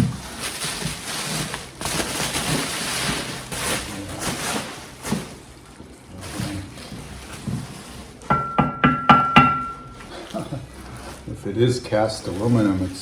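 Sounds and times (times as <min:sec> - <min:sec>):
bubble wrap crinkling: 0:00.0 - 0:08.3, 0:09.8 - 0:13.0.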